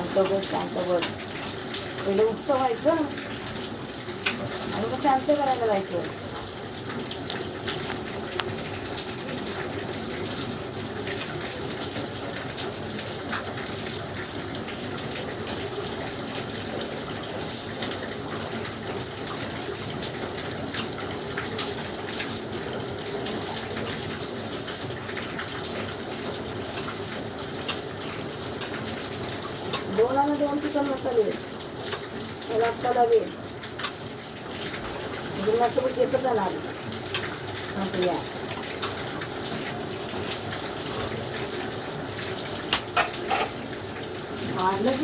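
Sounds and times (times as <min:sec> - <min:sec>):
light ticks and drips: 0:00.0 - 0:45.0
running water rushing: 0:00.0 - 0:45.0.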